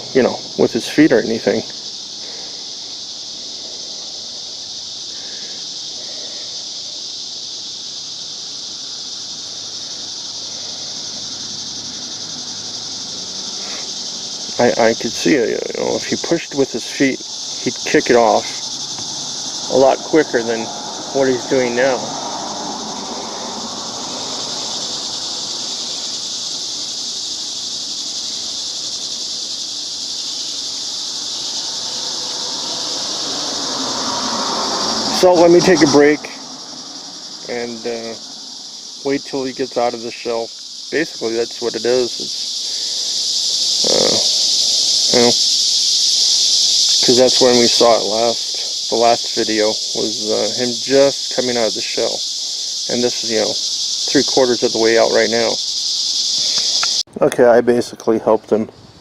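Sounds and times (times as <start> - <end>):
high-pitched insect buzzing: 0.0 - 57.1.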